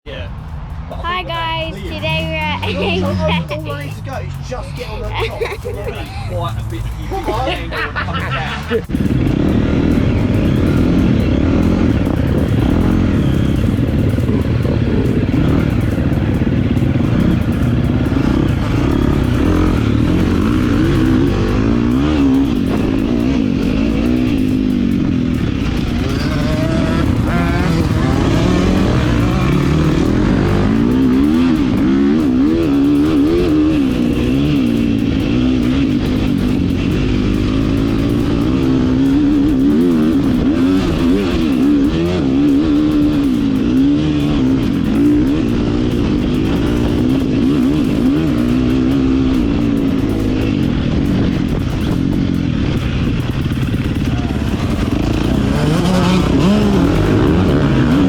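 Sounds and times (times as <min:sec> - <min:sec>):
dirt bike engine revving: 0:00.1 - 0:58.0.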